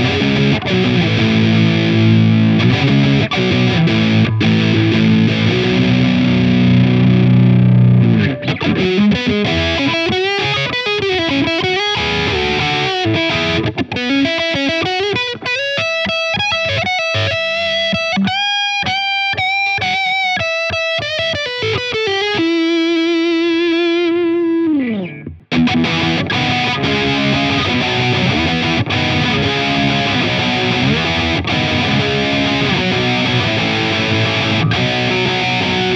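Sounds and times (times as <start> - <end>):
distorted electric guitar: 0.0 - 35.9.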